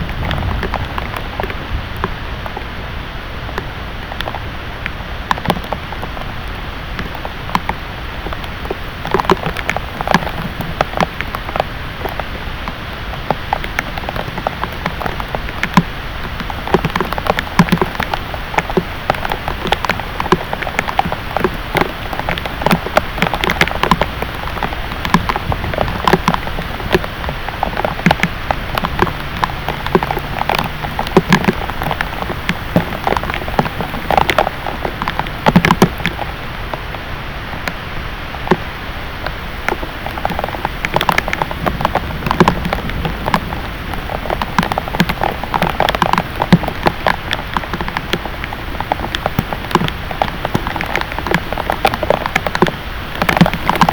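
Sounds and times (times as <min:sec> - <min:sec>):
heavy rain falling: 0:00.0 - 0:53.9
raindrops hitting a surface: 0:00.0 - 0:53.9.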